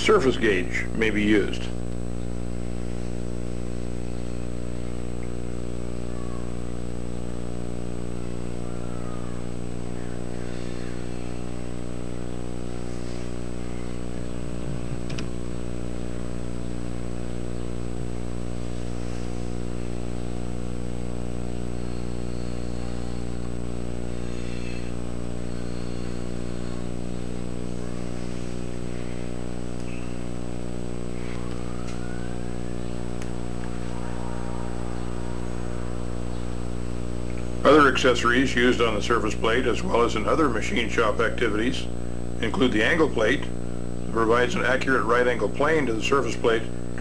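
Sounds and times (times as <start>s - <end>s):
low steady hum: 0.0s - 47.0s
thin high whine: 0.0s - 47.0s.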